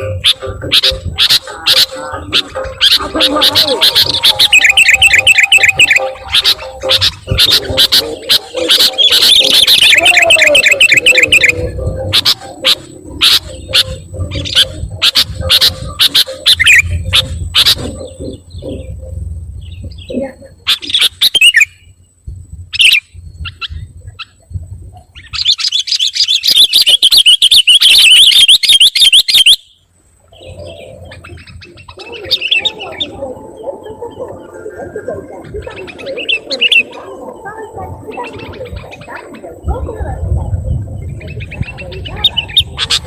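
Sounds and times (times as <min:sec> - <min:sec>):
bulbul chirping and chattering: 0:00.0 - 0:43.0
lower bird sounds: 0:00.0 - 0:43.0.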